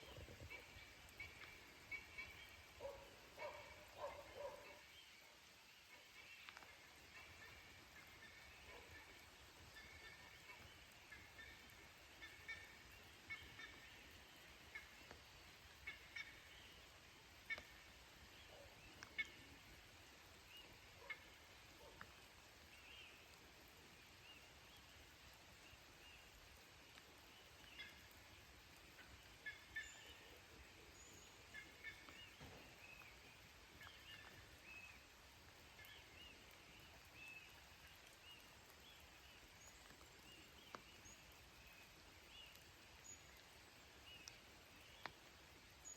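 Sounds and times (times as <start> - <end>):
quiet hiss: 0.0 - 45.9.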